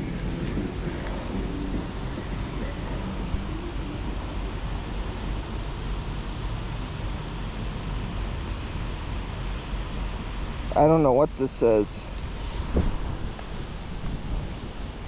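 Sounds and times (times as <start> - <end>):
wind buffeting microphone: 0.0 - 10.7, 12.1 - 15.0.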